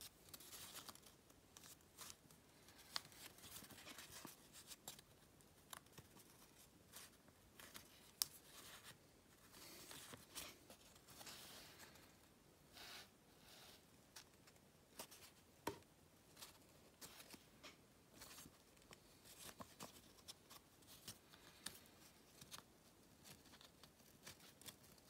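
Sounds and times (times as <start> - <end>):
paper rustling and crinkling: 0.0 - 12.0, 16.3 - 25.0.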